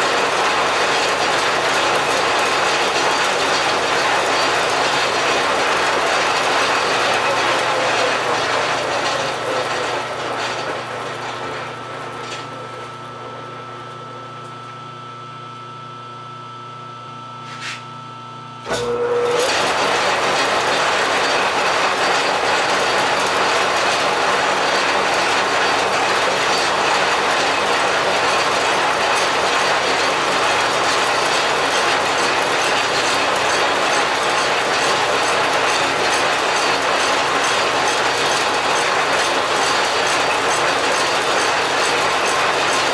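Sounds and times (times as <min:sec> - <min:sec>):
lathe running: 0:00.0 - 0:14.4, 0:18.6 - 0:42.9.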